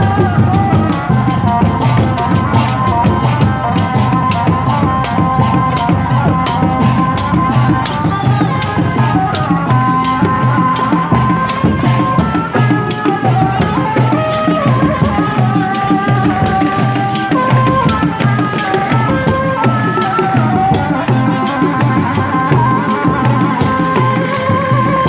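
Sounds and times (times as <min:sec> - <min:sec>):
drums beating: 0:00.0 - 0:25.0
rattling percussion: 0:00.0 - 0:25.0
wavering melody: 0:00.0 - 0:25.0.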